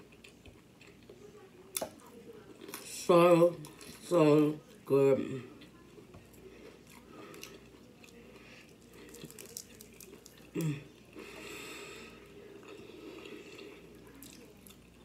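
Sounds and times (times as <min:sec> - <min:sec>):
person chewing food: 0:00.0 - 0:02.9, 0:05.6 - 0:15.0.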